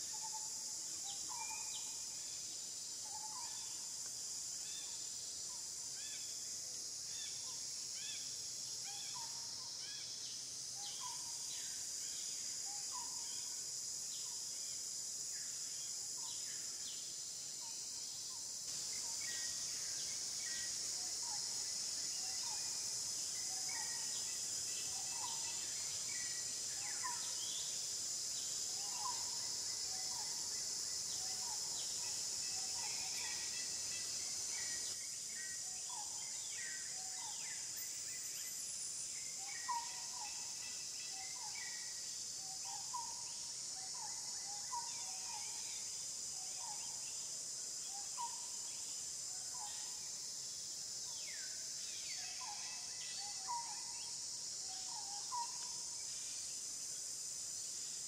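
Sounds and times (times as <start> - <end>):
insect chirping calls: 0.0 - 58.0
insect drone: 0.0 - 58.0.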